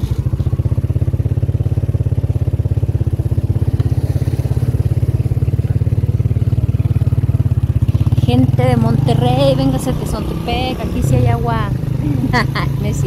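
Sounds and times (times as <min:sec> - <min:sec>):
vehicle engine throbbing: 0:00.0 - 0:13.0.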